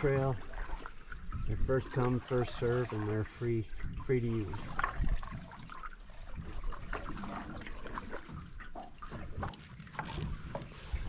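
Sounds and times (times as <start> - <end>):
paddle strokes splashing: 0.0 - 11.0.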